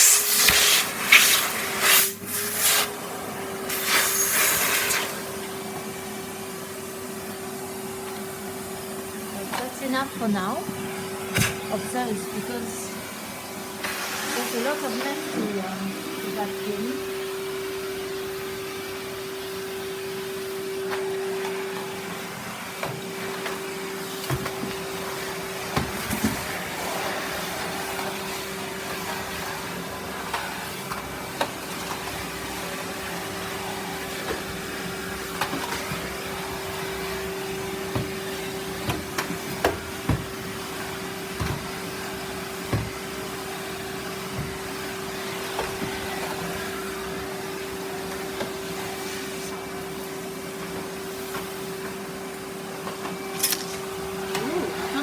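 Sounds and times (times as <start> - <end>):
vacuum cleaner humming: 0.0 - 55.0.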